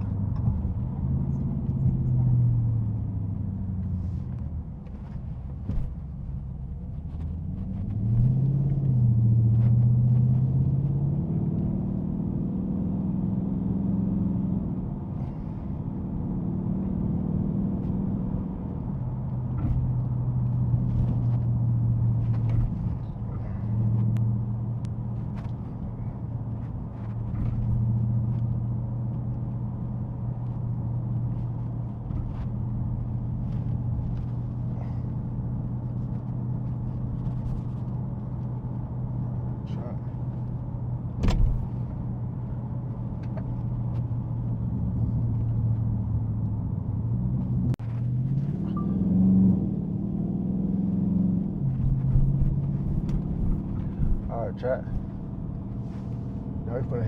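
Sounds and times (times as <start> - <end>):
car engine driving: 0.0 - 57.0.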